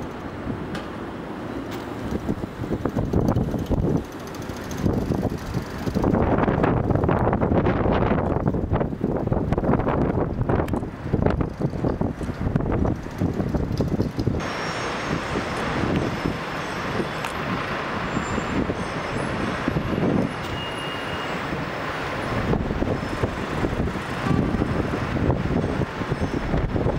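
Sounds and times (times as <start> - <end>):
city street traffic: 0.0 - 26.9
wind buffeting microphone: 1.8 - 20.6, 21.4 - 26.9.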